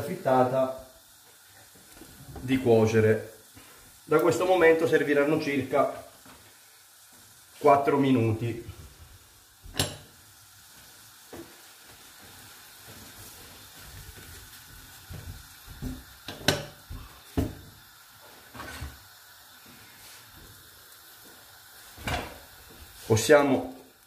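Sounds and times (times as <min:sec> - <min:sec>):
faint steady sizzle: 0:00.0 - 0:24.0.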